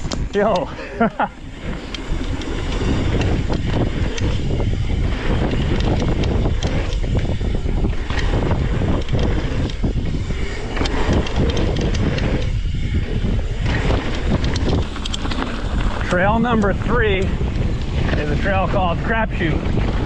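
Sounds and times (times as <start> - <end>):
bike rattling and clicking: 0.0 - 20.0
wind buffeting microphone: 0.0 - 20.0.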